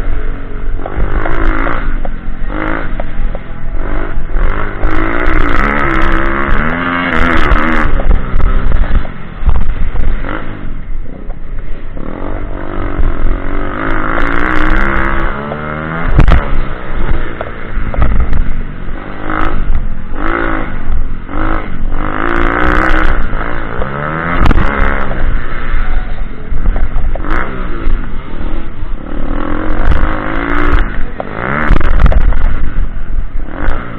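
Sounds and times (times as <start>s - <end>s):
pitbike engine revving: 0.0s - 33.9s.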